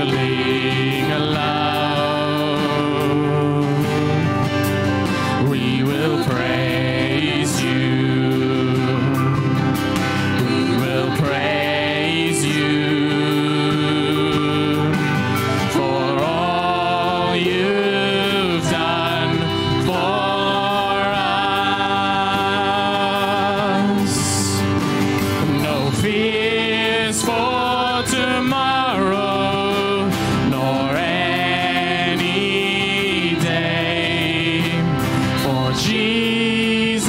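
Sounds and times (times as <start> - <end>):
acoustic guitars: 0.0 - 37.0
electric guitar: 0.0 - 37.0
male and female voices singing: 0.0 - 37.0.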